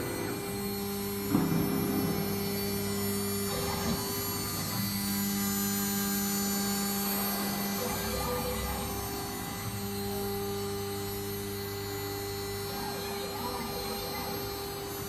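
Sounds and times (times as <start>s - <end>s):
low drive motor tone: 0.0s - 15.0s
router motor hum: 0.0s - 15.0s.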